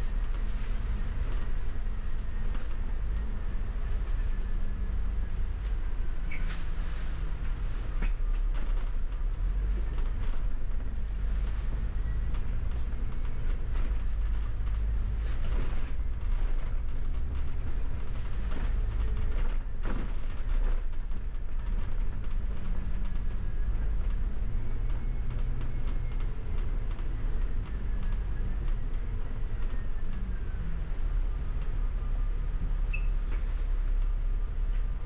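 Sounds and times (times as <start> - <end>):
bus engine rumble: 0.0 - 35.0
road noise: 0.0 - 35.0.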